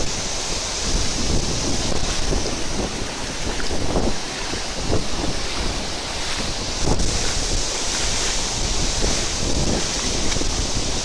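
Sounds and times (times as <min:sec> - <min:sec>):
water running over rocks: 0:00.0 - 0:11.0
waterfall rushing: 0:00.0 - 0:11.0
wind buffeting microphone: 0:00.0 - 0:11.0.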